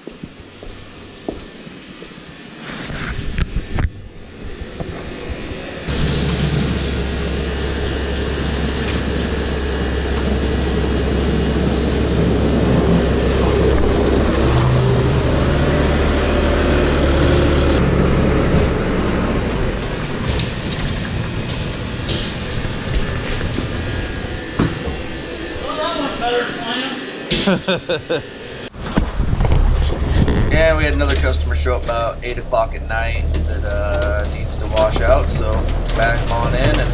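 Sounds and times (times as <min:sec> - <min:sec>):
rough mechanical noise: 0:00.0 - 0:27.6, 0:28.3 - 0:36.9
engine running steadily: 0:03.1 - 0:26.1, 0:28.7 - 0:36.9.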